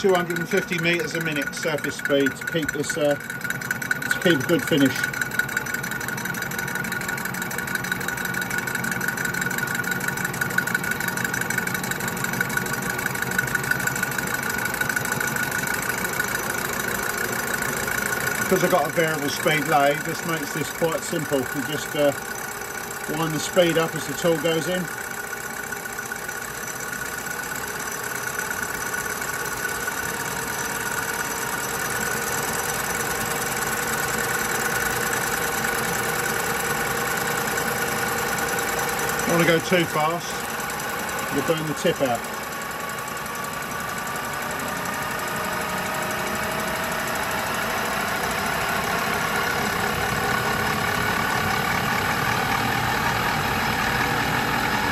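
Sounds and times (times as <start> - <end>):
lathe whining: 0.0 - 54.9.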